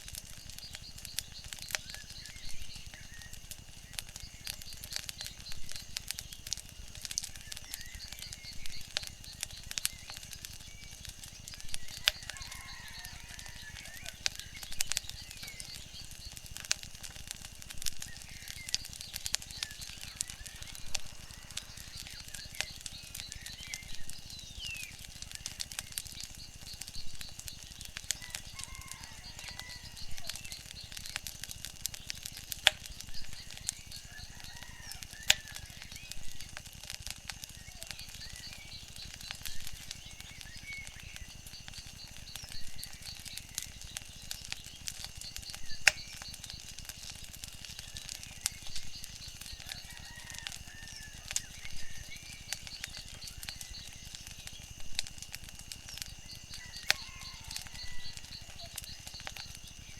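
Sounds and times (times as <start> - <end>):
faint chirps: 0.0 - 59.9
wood fire crackling and popping: 0.0 - 59.9.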